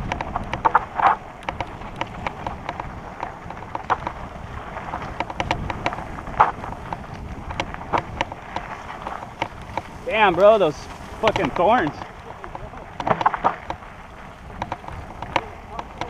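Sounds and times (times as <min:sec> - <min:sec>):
bike clicking and rattling: 0:00.0 - 0:16.0
low wind: 0:00.0 - 0:16.0
tyre noise: 0:00.0 - 0:16.0.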